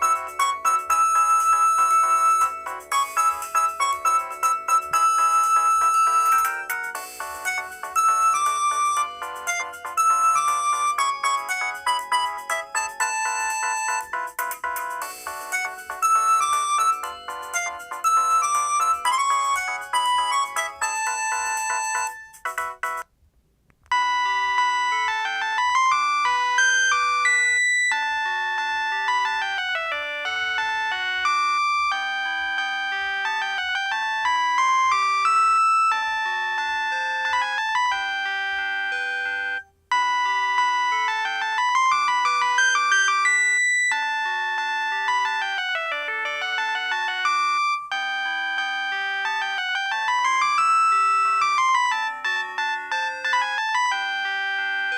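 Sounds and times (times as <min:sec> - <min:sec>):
mobile phone polyphonic ringtone: 0:00.0 - 0:23.1, 0:23.9 - 0:54.9.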